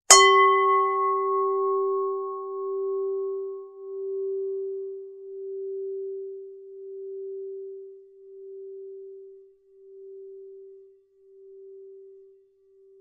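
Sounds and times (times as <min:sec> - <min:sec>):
singing bowl ringing: 0:00.1 - 0:13.0.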